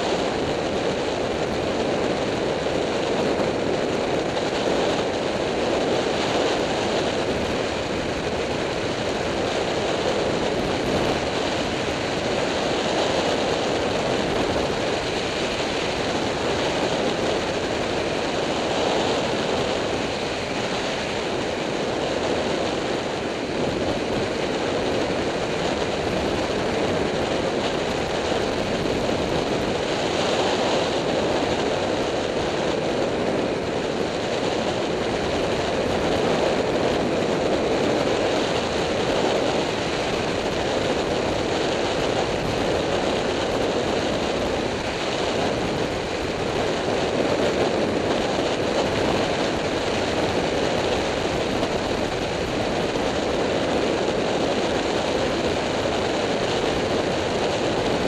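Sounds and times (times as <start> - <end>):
wind rushing over camera: 0.0 - 58.0.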